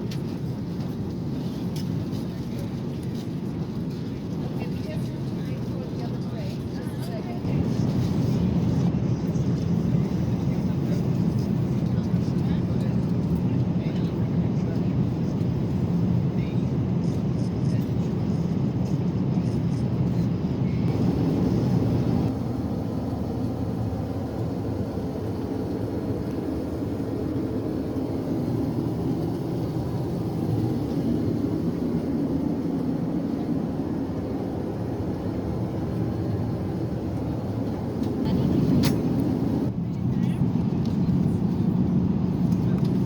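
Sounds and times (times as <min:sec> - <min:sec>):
airliner cabin drone: 0:00.0 - 0:43.0.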